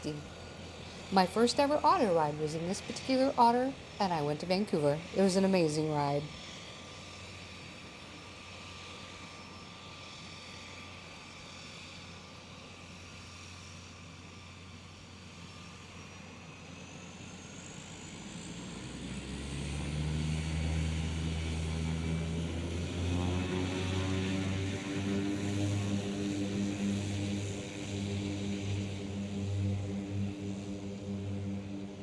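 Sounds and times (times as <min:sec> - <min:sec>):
floatplane engine and propeller: 0:00.0 - 0:32.0.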